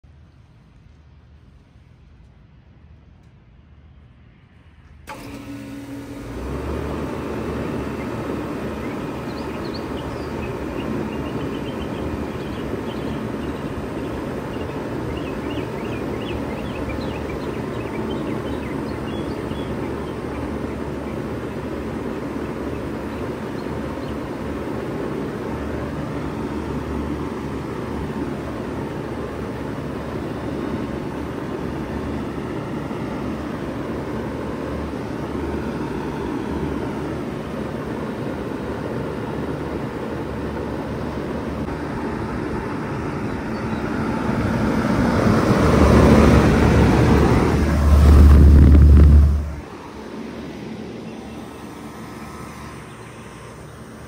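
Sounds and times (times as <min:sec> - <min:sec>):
heat pump humming: 0:05.0 - 0:54.0.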